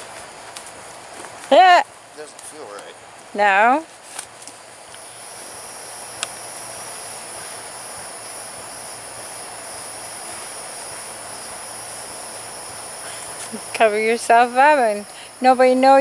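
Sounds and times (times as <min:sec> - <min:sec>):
high-pitched insect chorus drone: 0:00.0 - 0:16.0.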